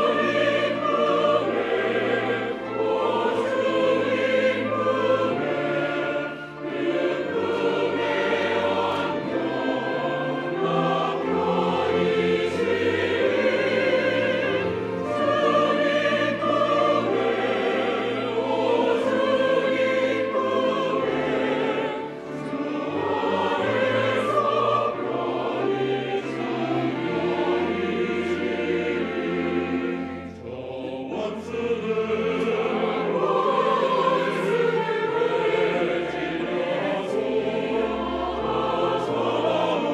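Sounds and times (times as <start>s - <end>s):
church choir singing: 0.0s - 39.9s
piano and organ accompaniment: 0.0s - 39.9s.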